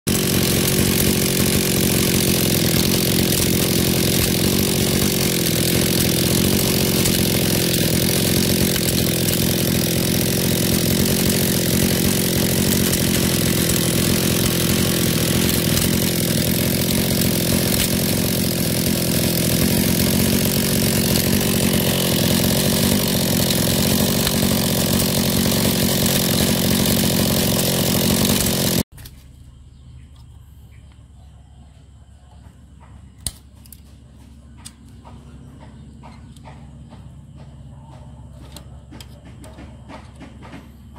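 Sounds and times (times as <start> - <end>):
brush cutter engine running: 0.1 - 29.1, 33.1 - 40.9.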